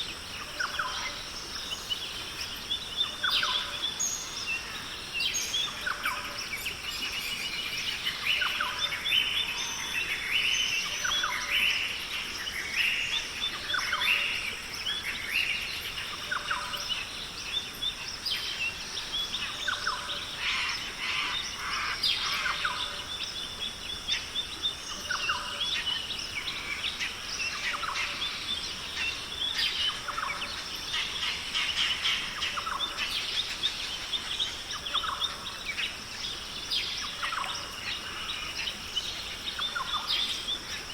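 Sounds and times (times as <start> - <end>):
steady high-pitched hiss: 0.0 - 40.9.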